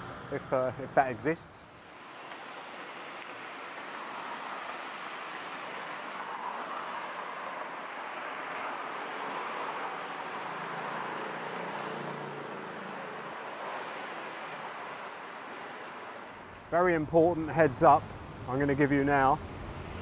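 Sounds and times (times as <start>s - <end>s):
cars passing on busy road: 0.0s - 20.0s.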